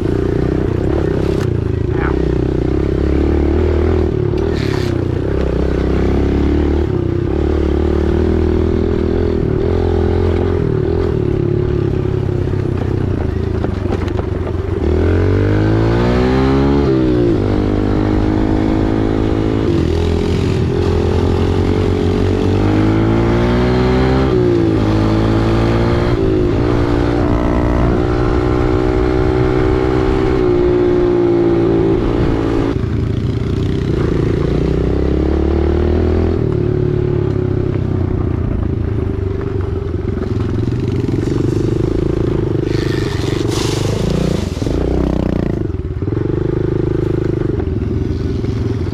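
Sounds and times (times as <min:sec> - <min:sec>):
dirt bike engine revving: 0:00.0 - 0:13.1, 0:14.7 - 0:37.2, 0:40.0 - 0:48.9.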